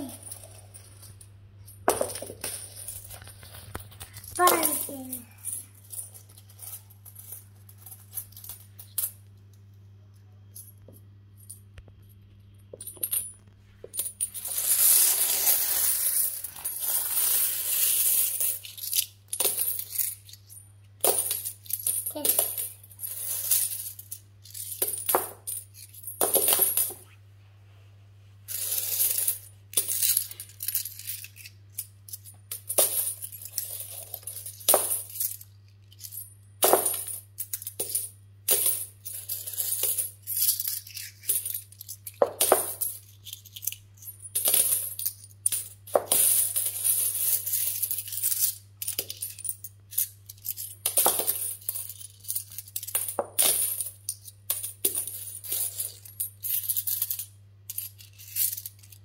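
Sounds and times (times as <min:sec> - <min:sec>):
coins clinking and jingling: 0:00.0 - 0:09.3, 0:12.7 - 0:27.0, 0:28.5 - 0:59.0.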